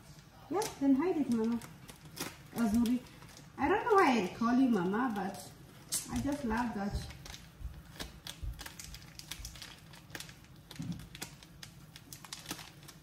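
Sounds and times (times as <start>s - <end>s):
packet crinkling: 0.0s - 13.0s.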